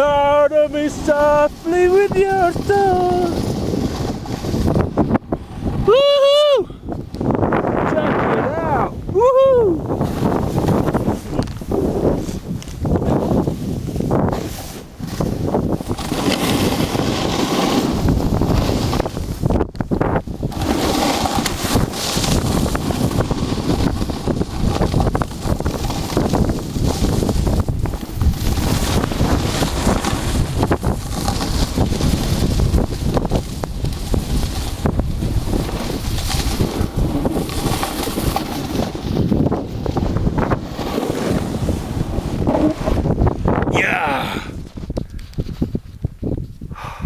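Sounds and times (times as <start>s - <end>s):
wind buffeting microphone: 0.0s - 47.0s
snowboard scrapes and knocks: 0.7s - 5.8s, 9.9s - 43.7s, 44.6s - 46.6s.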